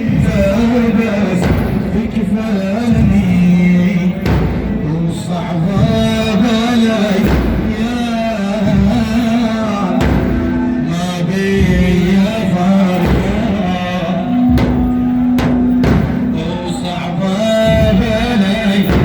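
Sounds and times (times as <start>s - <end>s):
man chanting a religious lament: 0.0s - 19.0s
percussion strokes: 0.0s - 19.0s.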